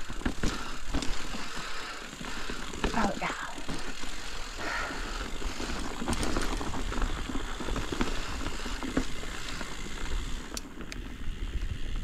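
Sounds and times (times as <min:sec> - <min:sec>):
bike tyres crunching over stones: 0:00.0 - 0:12.0.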